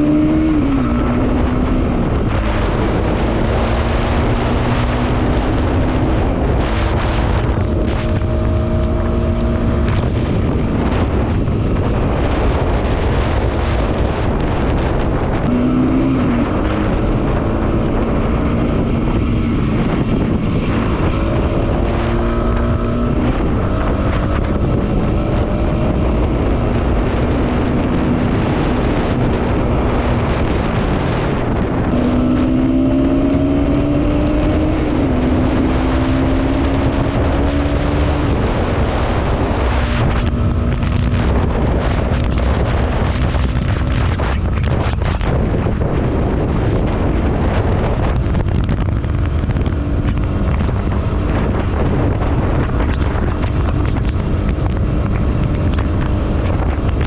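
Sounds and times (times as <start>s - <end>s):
vehicle engine: 0.0s - 57.0s
wind buffeting microphone: 0.0s - 57.0s.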